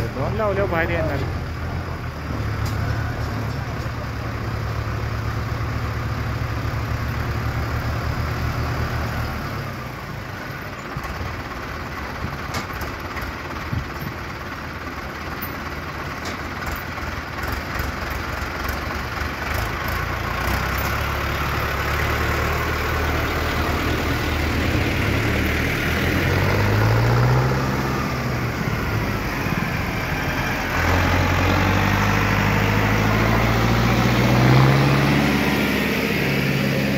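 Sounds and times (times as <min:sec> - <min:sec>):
tractor diesel engine revving: 0:00.0 - 0:36.9.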